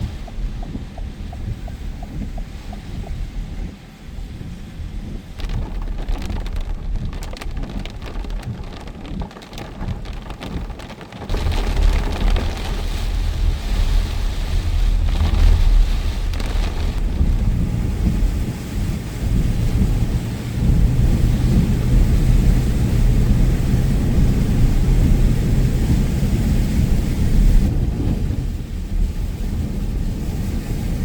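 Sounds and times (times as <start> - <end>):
raindrops pattering: 0.0 - 3.5, 5.3 - 28.8
heavy rain: 0.0 - 31.0
low storm rumble: 0.0 - 31.0.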